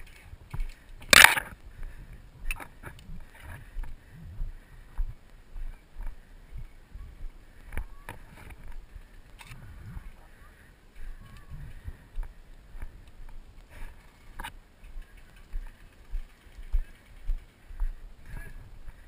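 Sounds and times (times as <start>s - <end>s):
footsteps on dirt trail: 0.0s - 19.0s.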